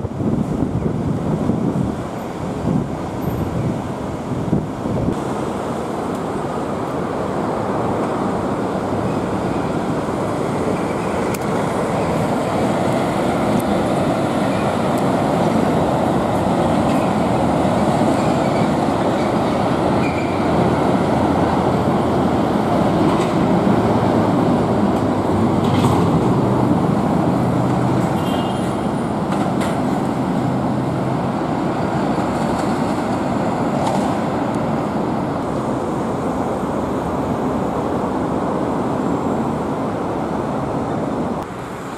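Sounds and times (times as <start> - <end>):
city road traffic rumble: 0.0 - 41.9.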